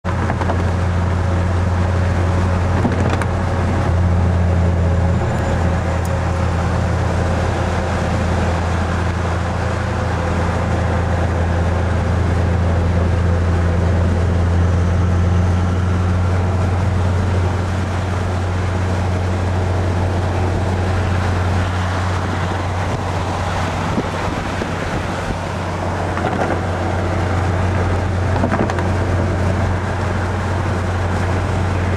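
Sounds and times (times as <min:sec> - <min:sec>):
tyre and wind noise: 0:00.0 - 0:14.3, 0:15.2 - 0:31.9
car engine drone: 0:00.0 - 0:31.9.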